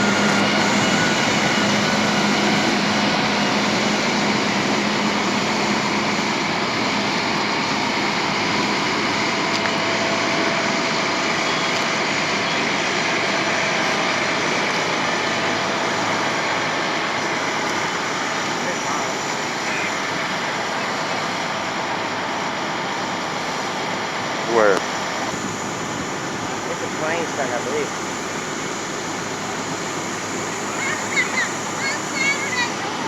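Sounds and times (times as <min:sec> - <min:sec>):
heavy vehicle engines running: 0:00.0 - 0:33.0.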